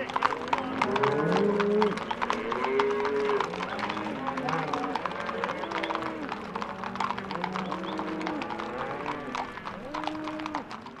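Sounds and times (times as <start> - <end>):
clatter of hooves: 0.0 - 11.0
cattle mooing: 0.6 - 10.7.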